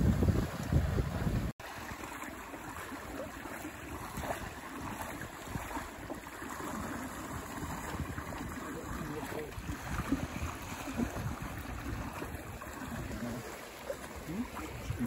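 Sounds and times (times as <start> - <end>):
wind buffeting microphone: 0.0 - 1.5, 3.8 - 15.0
water rushing past hull: 0.0 - 15.0.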